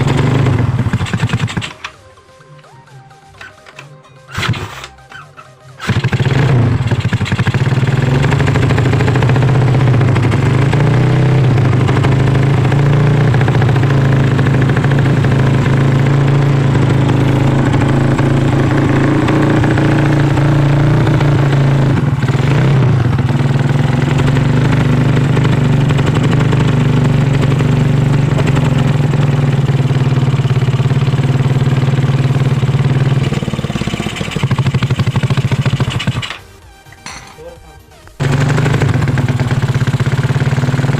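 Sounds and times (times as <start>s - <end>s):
scooter engine running loud: 0.0s - 40.9s.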